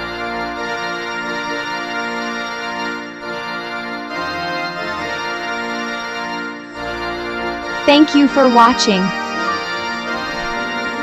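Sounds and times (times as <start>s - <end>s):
organ-like keyboard chords: 0.0s - 11.0s.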